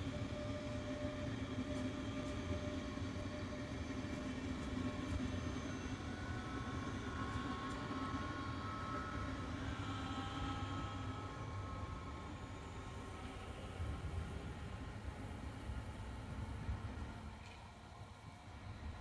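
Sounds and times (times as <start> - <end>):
faint high whine: 0.0 - 19.0
train rumble and electric hum: 0.0 - 19.0.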